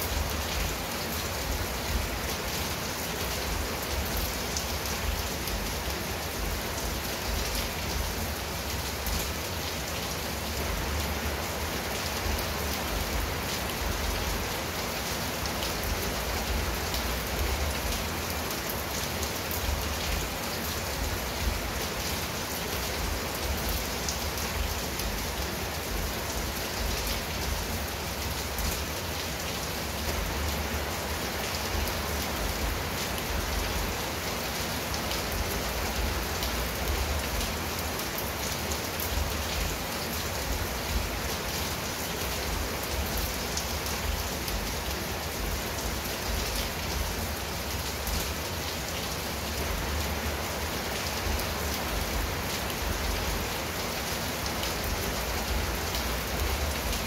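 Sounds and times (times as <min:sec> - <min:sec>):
rain on a tile roof: 0:00.0 - 0:57.0.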